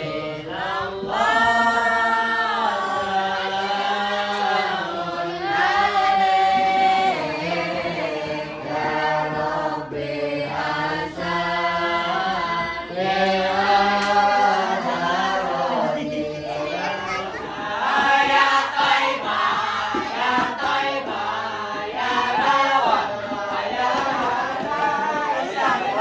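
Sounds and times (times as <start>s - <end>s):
group chanting devotional songs: 0.0s - 26.0s.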